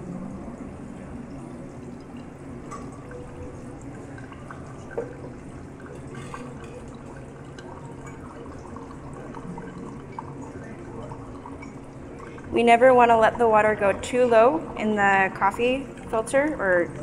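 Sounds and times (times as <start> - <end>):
water trickling onto coffee grounds: 0.3 - 17.0.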